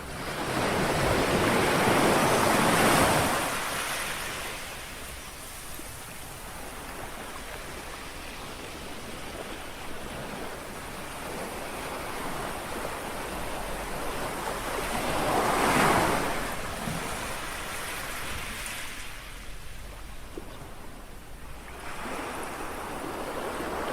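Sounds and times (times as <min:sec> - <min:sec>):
small waves lapping on shore: 0:00.0 - 0:23.9.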